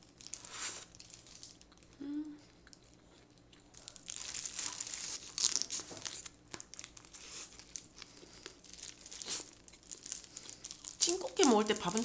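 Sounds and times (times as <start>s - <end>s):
plastic gloves crinkling: 0.0s - 2.0s, 3.4s - 12.0s.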